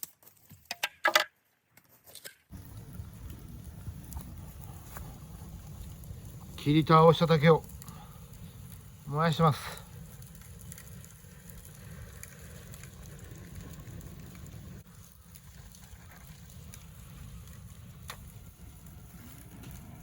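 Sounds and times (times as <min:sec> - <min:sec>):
sharp pops of burning bamboo: 0:02.2 - 0:20.0
bonfire hissing and crackling: 0:02.5 - 0:20.0.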